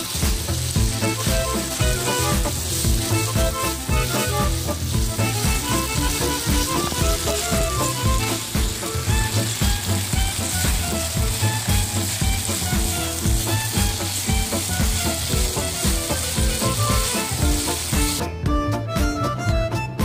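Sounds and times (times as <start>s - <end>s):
pork sizzling in a pan: 0.0s - 18.3s
background music: 0.0s - 20.0s.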